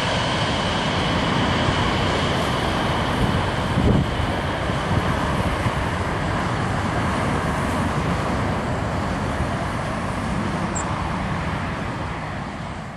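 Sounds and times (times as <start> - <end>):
jet engines roaring: 0.0 - 12.9
road traffic noise: 0.0 - 12.9.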